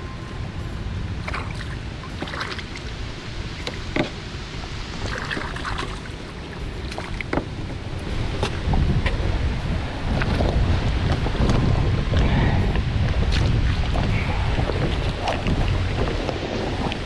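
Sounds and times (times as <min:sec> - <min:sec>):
wind rumble on microphone: 0:00.0 - 0:17.0
paddle splashing in water: 0:00.7 - 0:17.0.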